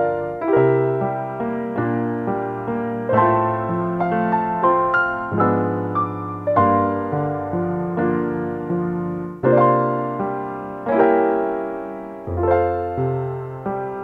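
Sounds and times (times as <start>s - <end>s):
slow piano notes and chords: 0.0s - 14.0s.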